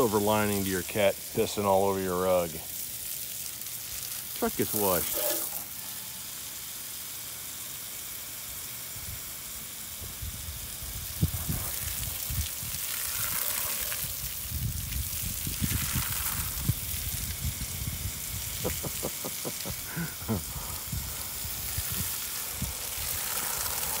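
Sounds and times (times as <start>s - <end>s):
hose spray hissing on wet rug: 0.0s - 24.0s.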